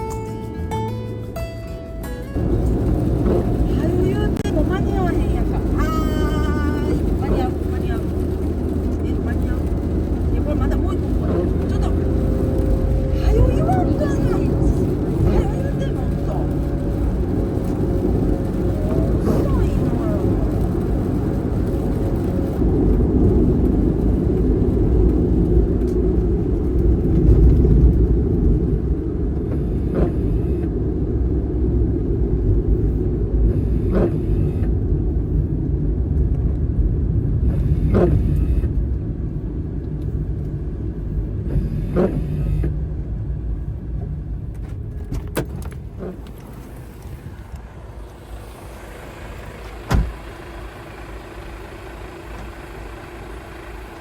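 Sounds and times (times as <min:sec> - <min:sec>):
van engine and road rumble: 0:00.0 - 0:54.0.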